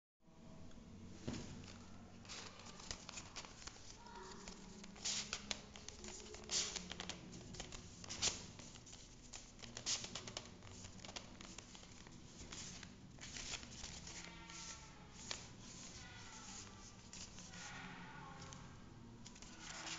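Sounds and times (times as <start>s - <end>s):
paper rustling and crackling: 1.3s - 17.7s, 19.2s - 19.9s.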